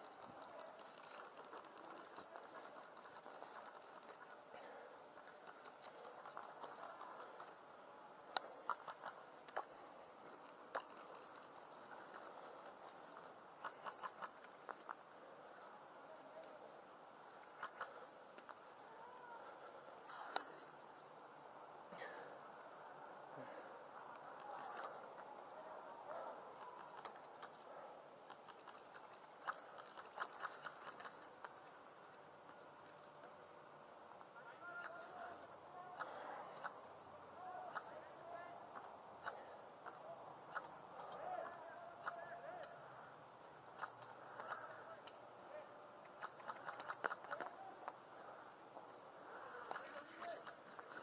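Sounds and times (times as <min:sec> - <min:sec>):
faint clicks and crackles: 0:00.0 - 0:51.0
faint steady rustle: 0:00.0 - 0:51.0.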